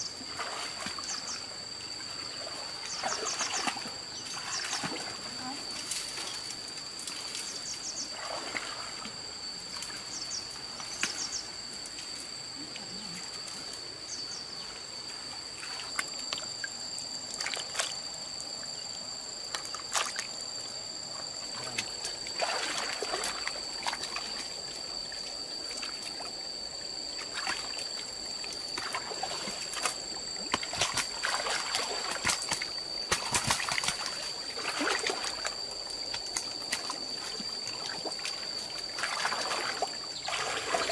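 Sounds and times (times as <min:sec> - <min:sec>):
water sloshing and splashing: 0:00.2 - 0:11.2, 0:15.5 - 0:18.7, 0:19.4 - 0:40.9.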